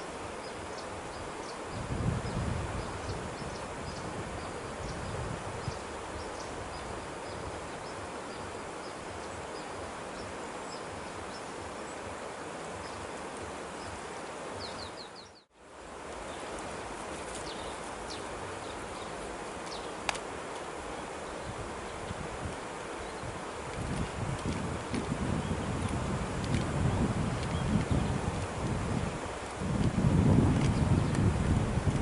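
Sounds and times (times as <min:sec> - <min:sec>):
wind-like rustling: 0:00.0 - 0:32.0.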